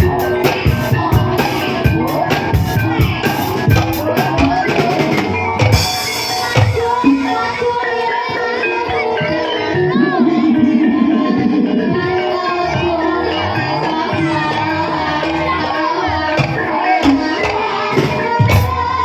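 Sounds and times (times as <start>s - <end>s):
melodic instruments: 0.0s - 18.7s
drums beating steady rhythm: 0.0s - 19.0s.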